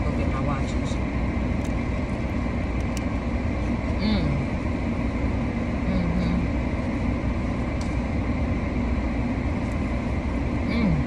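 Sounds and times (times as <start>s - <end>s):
air-conditioning blower hiss: 0.0s - 11.0s
car engine idling: 0.0s - 11.0s.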